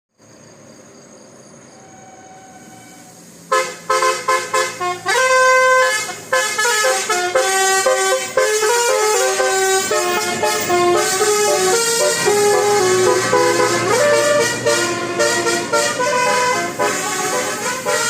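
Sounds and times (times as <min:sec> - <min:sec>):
bus air horns playing a tune: 0:01.8 - 0:18.0.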